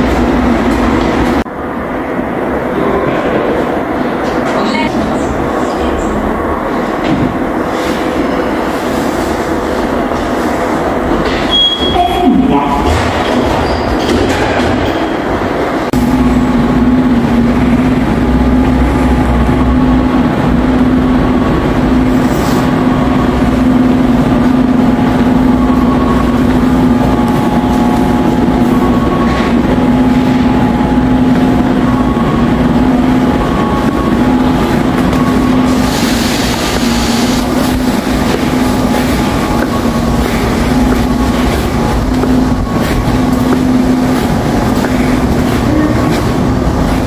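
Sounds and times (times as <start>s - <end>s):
subway train rumbling: 0.0s - 47.0s.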